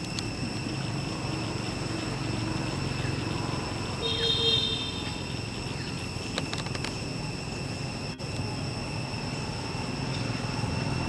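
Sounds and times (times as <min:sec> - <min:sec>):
distant engine rumble: 0:00.0 - 0:11.0
high-pitched whine: 0:00.0 - 0:11.0.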